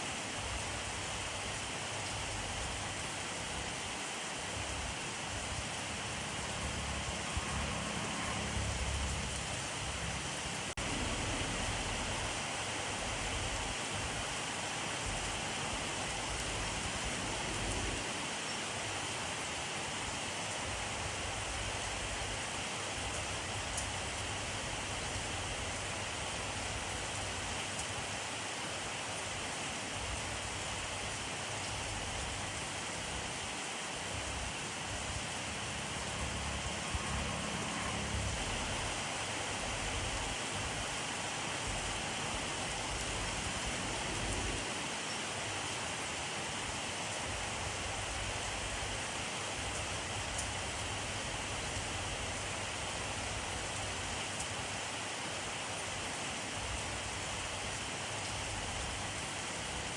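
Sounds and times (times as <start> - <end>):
dense rain hissing: 0.0 - 59.9.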